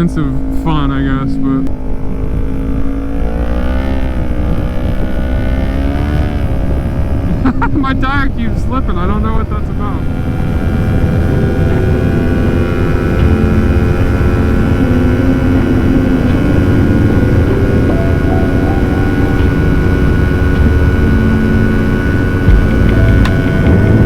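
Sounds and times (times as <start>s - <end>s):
motorcycle engine running: 0.0s - 24.0s
wind rumble on microphone: 1.7s - 24.0s.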